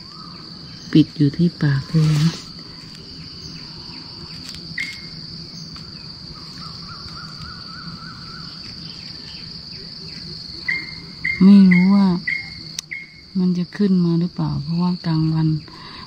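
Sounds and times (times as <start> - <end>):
bird warbling song: 0.0 - 13.4
bird chirping: 0.0 - 13.5
insects droning: 0.0 - 16.0.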